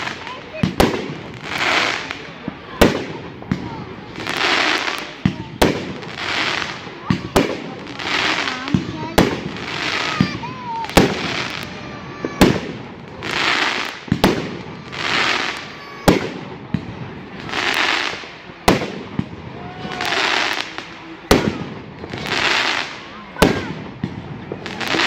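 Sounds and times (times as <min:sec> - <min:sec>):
fireworks bangs: 0:00.0 - 0:25.0
fireworks hissing: 0:00.0 - 0:25.0.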